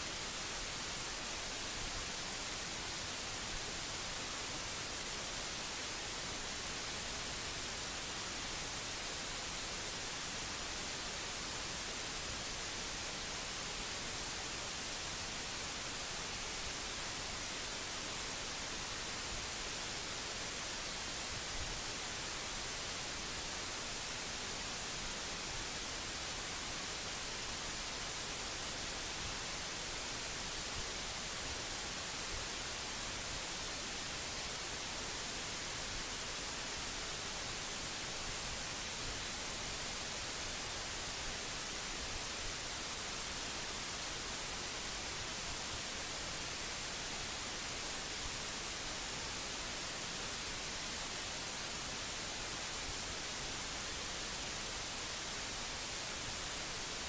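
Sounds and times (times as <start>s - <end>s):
static hiss: 0.0s - 57.0s.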